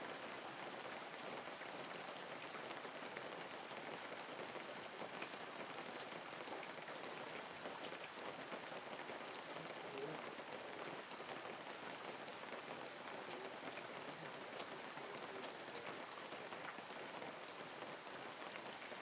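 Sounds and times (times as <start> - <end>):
light rain falling: 0.0 - 19.0.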